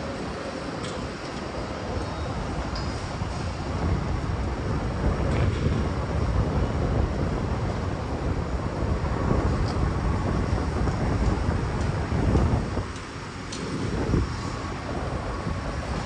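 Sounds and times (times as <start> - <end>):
city traffic rumble: 0.0 - 16.0
wind buffeting microphone: 0.0 - 16.0.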